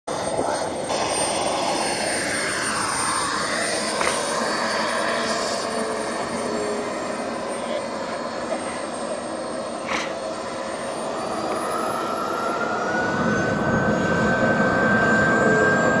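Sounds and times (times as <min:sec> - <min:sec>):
small turbine engine whining: 0:00.1 - 0:16.0.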